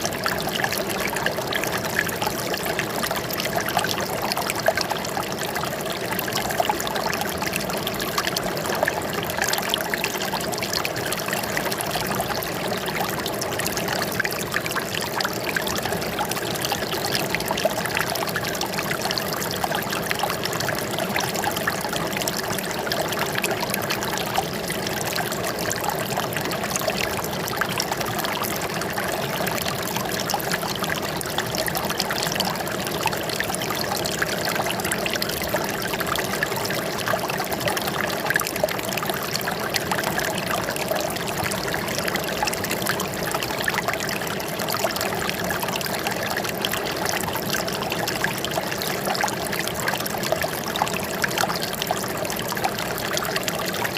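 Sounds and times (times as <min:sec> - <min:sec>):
water trickling and splashing: 0:00.0 - 0:53.9.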